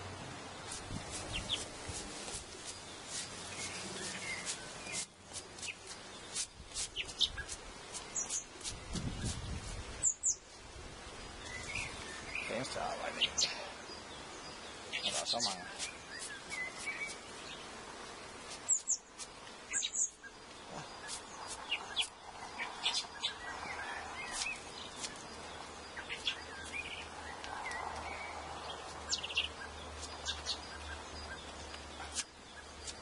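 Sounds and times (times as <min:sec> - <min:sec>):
honeybees humming: 0:00.0 - 0:33.0
small birds chirping: 0:00.5 - 0:33.0.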